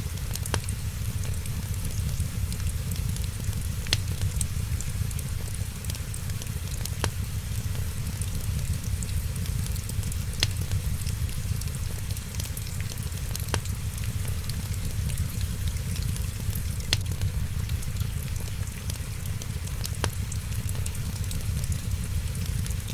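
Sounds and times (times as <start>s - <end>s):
rain rumble and hiss: 0.0s - 22.9s
sharp fire pops: 0.0s - 22.9s
wood fire crackling: 0.0s - 22.9s.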